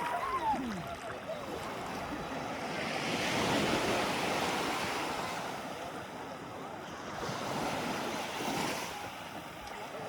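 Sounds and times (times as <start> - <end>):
small sea waves washing in: 0.0 - 10.0.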